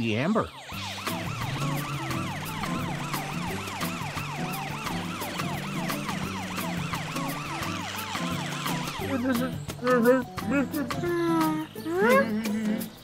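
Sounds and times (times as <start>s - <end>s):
cartoon siren yelping: 0.6s - 12.3s
background music with steady beat: 0.6s - 13.0s.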